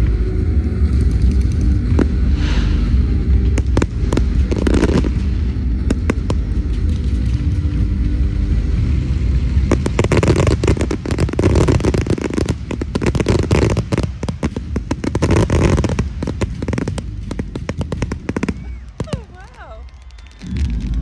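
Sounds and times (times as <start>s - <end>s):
fireworks bangs and crackling: 0.0s - 21.0s
low rumble: 0.0s - 21.0s.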